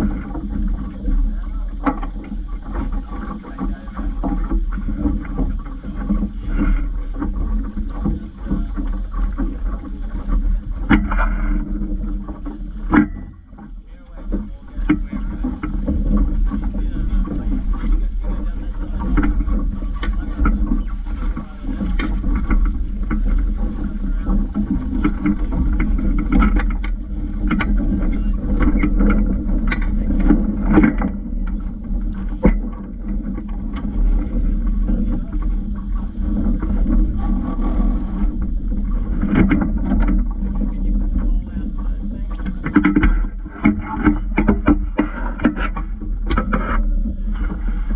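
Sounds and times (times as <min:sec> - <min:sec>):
knocks and clicks from hull: 0:00.0 - 0:47.9.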